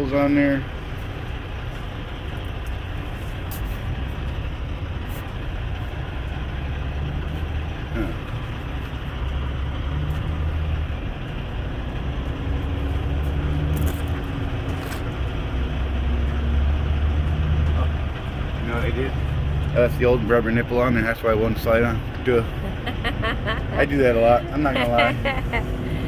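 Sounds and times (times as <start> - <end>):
diesel truck engines idling: 0.0 - 26.0.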